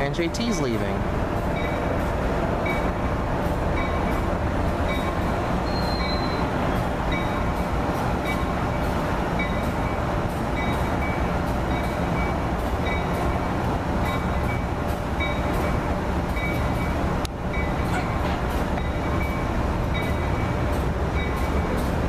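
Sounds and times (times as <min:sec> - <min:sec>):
train coaches rumbling past: 0:00.0 - 0:22.0.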